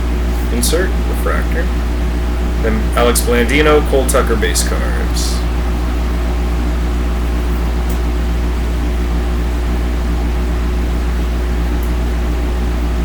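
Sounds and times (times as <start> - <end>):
low electrical hum with buzz: 0.0 - 13.0.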